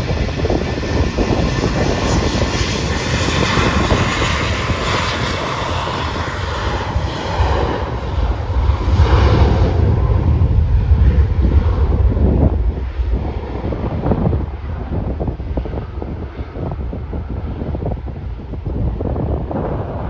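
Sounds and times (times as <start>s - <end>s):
jet engines whining: 0.0s - 20.0s
low rumble: 0.0s - 20.0s.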